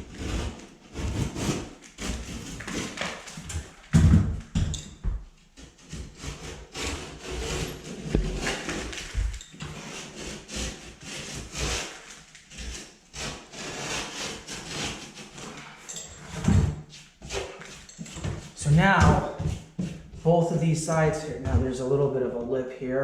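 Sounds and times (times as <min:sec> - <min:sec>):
utility knife cutting drywall: 0:00.0 - 0:05.0, 0:05.6 - 0:21.6.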